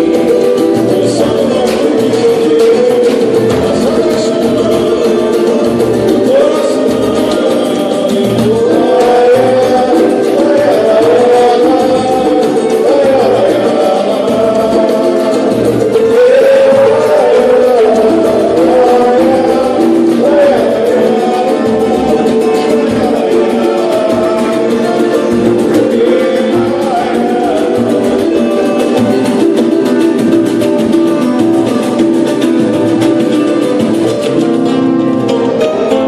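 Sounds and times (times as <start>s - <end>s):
plucked strings: 0.0s - 36.0s
steady percussion beat: 0.0s - 36.0s
voices singing: 0.0s - 36.0s.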